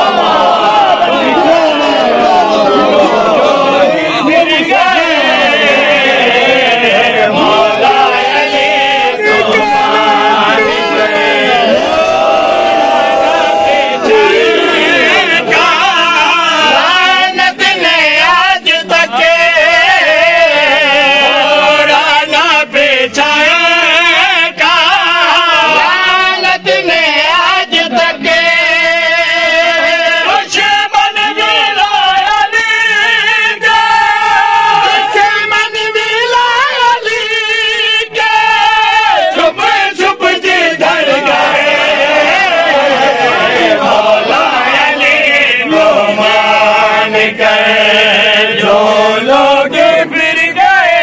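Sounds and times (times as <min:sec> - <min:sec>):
man singing through a microphone: 0:03.0 - 0:11.8, 0:15.0 - 0:51.0.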